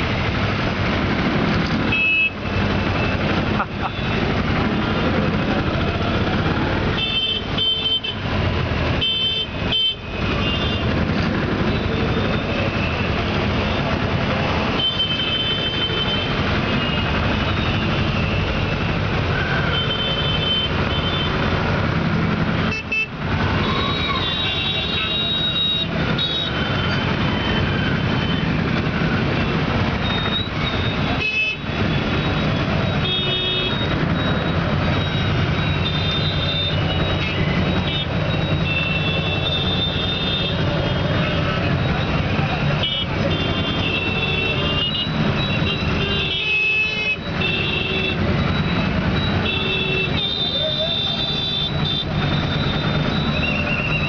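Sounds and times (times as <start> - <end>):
dense city traffic engines: 0.0 - 54.0.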